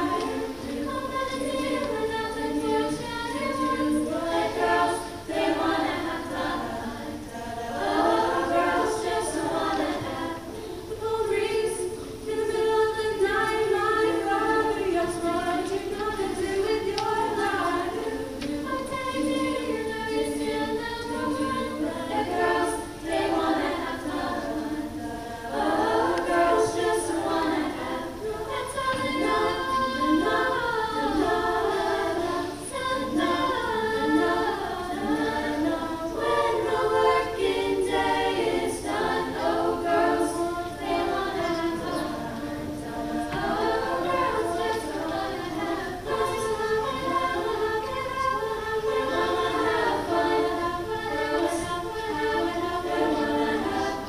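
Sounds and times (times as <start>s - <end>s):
choir singing a cappella: 0.0s - 54.0s.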